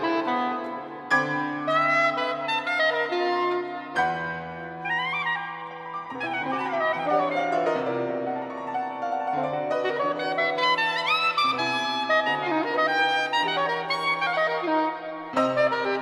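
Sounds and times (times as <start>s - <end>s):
piano: 0.0s - 16.0s
soprano saxophone: 0.0s - 16.0s
violin: 0.0s - 16.0s.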